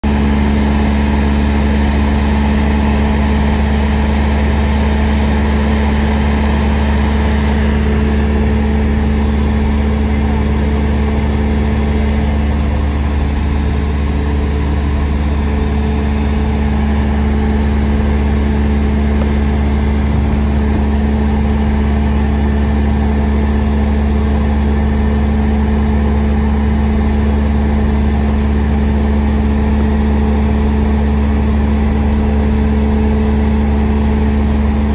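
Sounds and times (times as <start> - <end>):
propeller plane engine droning: 0.0 - 34.9.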